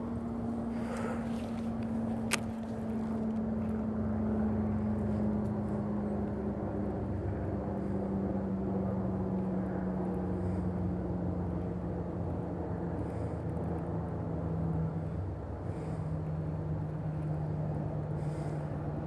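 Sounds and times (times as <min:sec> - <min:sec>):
distant engine drone: 0:00.0 - 0:19.0.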